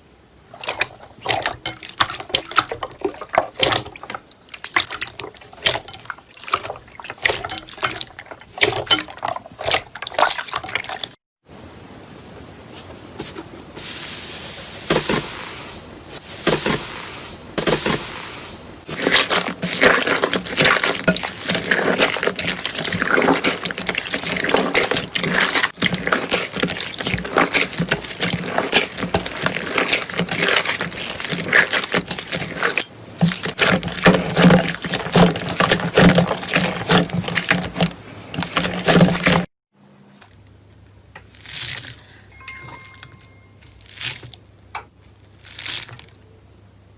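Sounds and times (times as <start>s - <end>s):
slime squelching by hand: 0.5s - 11.2s, 16.1s - 39.5s, 41.2s - 44.5s, 45.1s - 46.2s.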